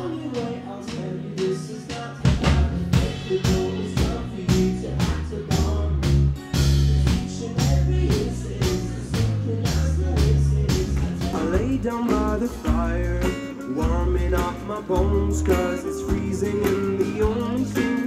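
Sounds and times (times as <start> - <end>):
drums and bass beat: 0.0 - 18.0
live band playing instrumental: 0.2 - 18.0.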